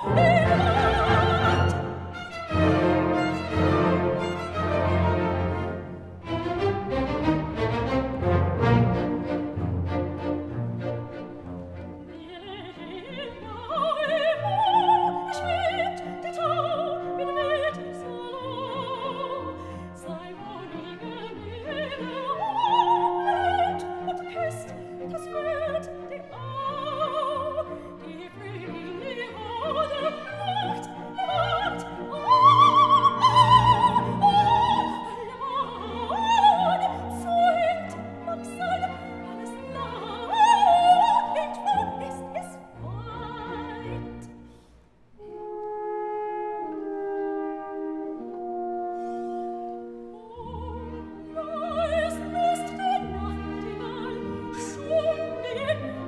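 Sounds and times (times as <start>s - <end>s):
orchestral accompaniment: 0.0s - 56.0s.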